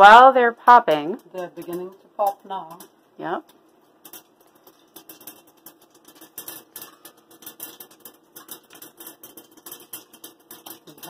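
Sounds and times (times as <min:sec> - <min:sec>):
mustard seeds popping in oil: 0:00.0 - 0:11.0.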